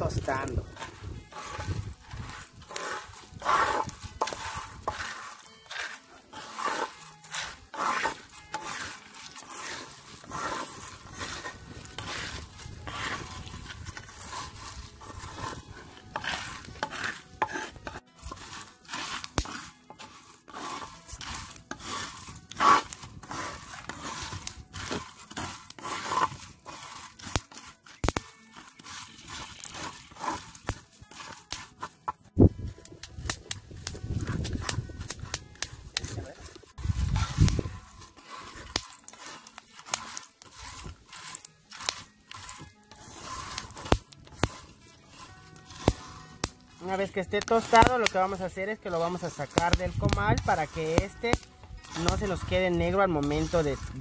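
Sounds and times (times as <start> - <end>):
seeds rustling: 0.0 - 54.0
wooden spatula scraping clay pan: 0.0 - 54.0.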